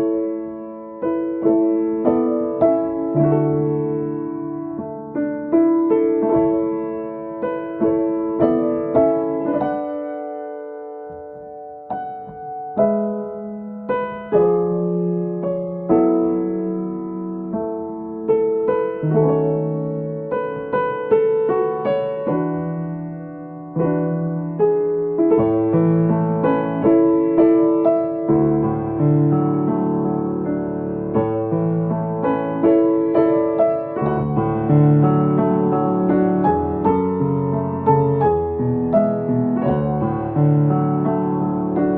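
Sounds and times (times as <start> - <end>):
piano-toned keyboard melody: 0.0 - 41.9.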